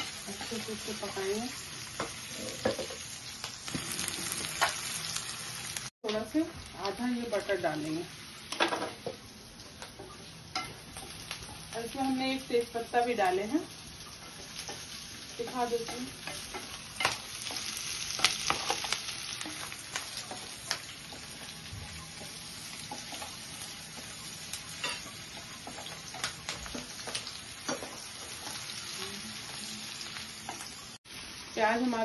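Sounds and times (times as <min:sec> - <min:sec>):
onions sizzling in frying pan: 0:00.0 - 0:32.0.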